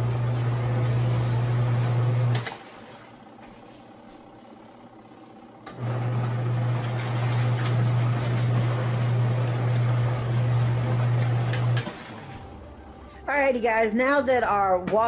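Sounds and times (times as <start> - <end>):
washing machine motor humming: 0.0 - 13.3.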